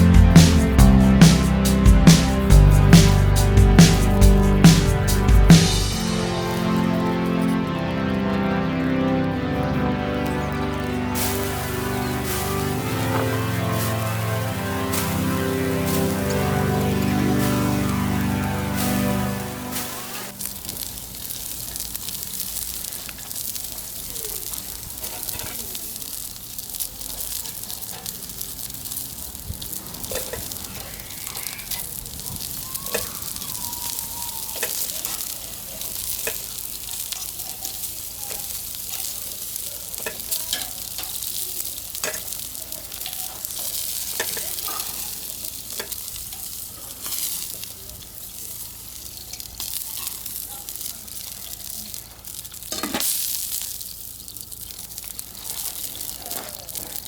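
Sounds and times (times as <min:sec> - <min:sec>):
fire crackling and popping: 0:00.0 - 0:57.0
food sizzling on a grill: 0:11.2 - 0:57.0.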